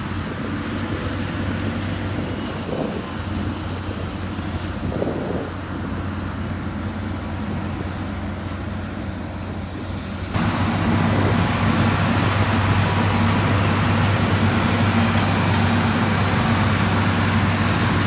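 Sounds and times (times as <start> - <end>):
heavy machinery diesel engine: 0.0 - 18.0.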